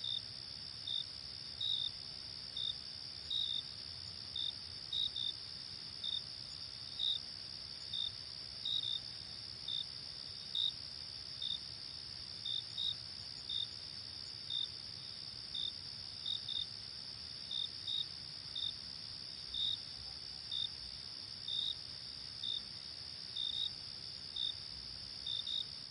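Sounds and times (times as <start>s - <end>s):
cricket chirping: 0.0s - 25.9s.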